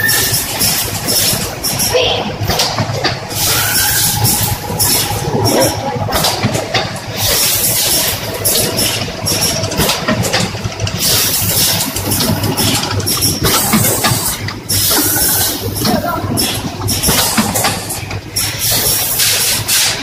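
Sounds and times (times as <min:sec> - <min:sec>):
packaging machine hum and clatter: 0:00.0 - 0:20.0.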